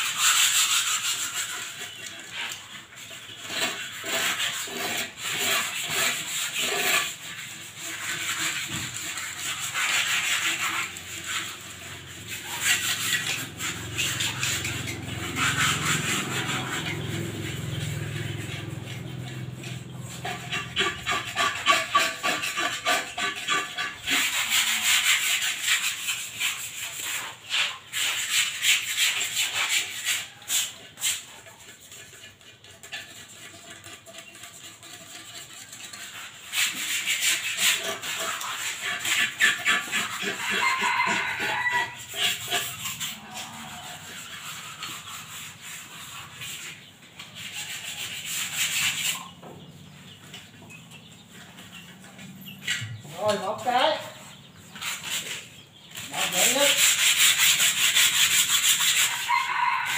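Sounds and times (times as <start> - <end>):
hands scrubbing cement pots: 0.0 - 59.9.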